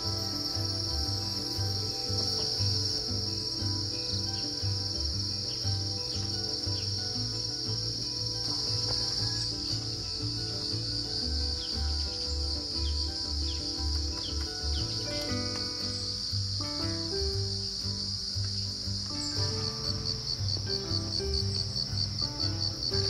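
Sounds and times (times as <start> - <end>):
crickets trilling: 0.0 - 23.0
music with pulsing bass beat: 0.0 - 23.0.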